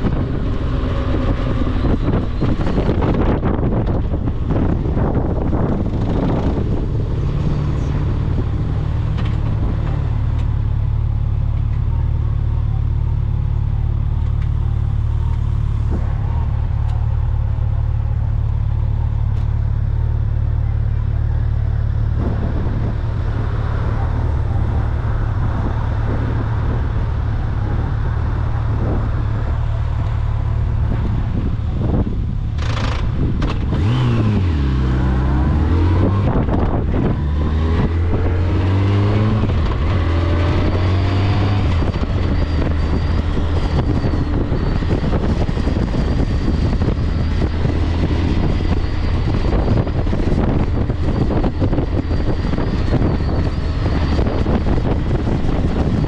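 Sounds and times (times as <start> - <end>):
vehicle engine running: 0.0 - 56.0
wind and road noise: 0.0 - 56.0.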